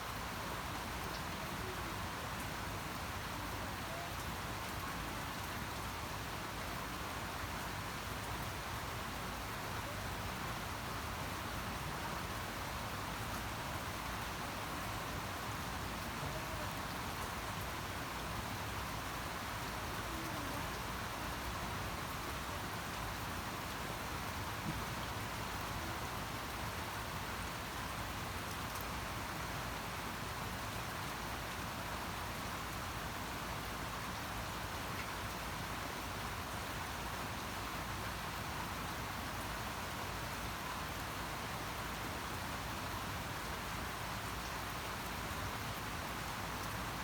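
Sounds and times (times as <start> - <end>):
steady rain falling: 0.0 - 47.0.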